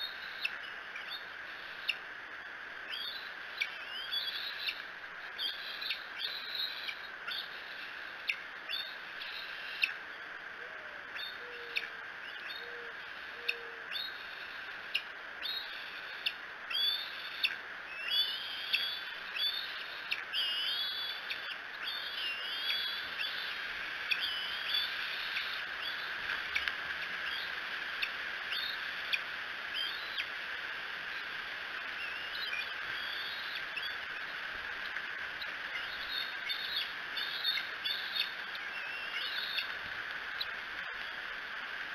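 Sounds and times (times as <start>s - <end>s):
steady background hiss: 0.0s - 41.9s
eagles chirping calls: 2.9s - 30.4s, 31.8s - 40.6s.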